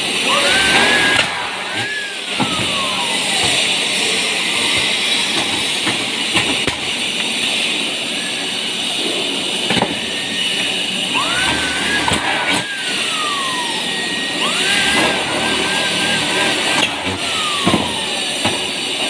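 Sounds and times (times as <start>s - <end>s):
cordless drill motor whining: 0.0s - 5.8s, 7.9s - 19.0s.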